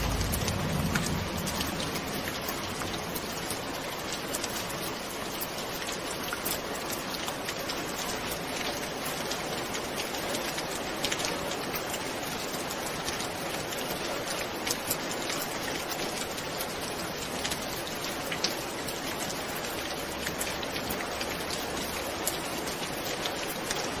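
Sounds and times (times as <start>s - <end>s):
raindrops ticking: 0.0s - 24.0s
steady rain hiss: 0.0s - 24.0s.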